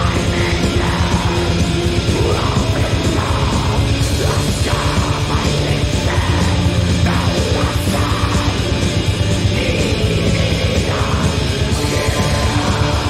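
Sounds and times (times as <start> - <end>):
black metal music: 0.0 - 13.0.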